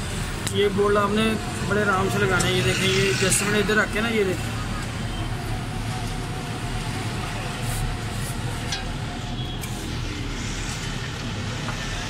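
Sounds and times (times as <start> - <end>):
background traffic hum: 0.0 - 12.0
workshop noise: 0.0 - 12.0.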